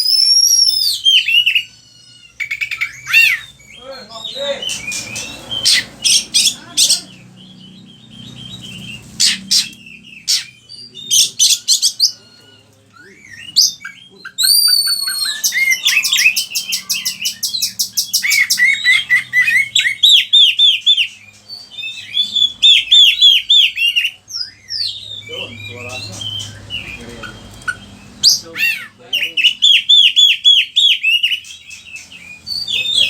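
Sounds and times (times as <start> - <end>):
bird singing whistles and trills: 0.0 - 33.0.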